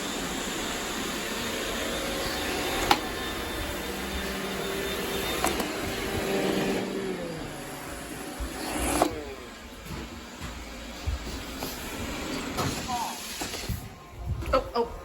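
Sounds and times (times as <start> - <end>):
robot vacuum cleaner humming: 0.0 - 14.2.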